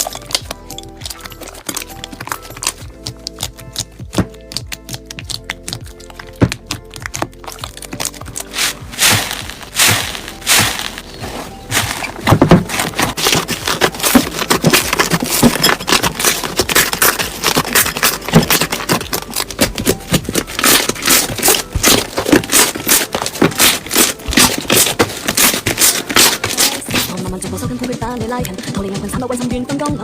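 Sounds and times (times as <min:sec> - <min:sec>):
slime crackling and popping: 0:00.0 - 0:27.1.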